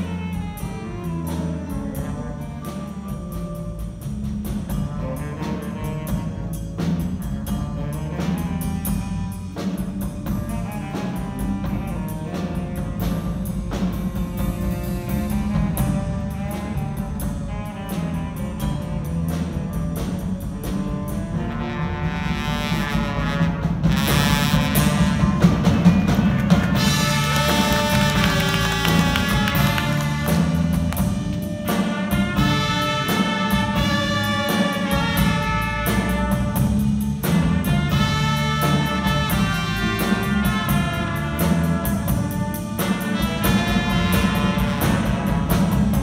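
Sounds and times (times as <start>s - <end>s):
drum kit beat: 0.0s - 46.0s
heavy low bass line: 0.0s - 46.0s
horn section: 0.0s - 46.0s.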